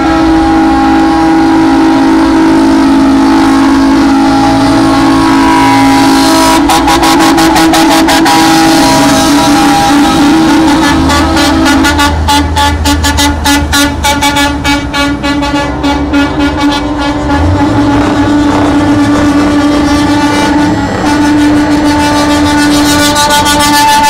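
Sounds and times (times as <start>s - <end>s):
diesel trucks rumbling past: 0.0s - 24.0s
truck air horn blasts: 0.0s - 24.0s.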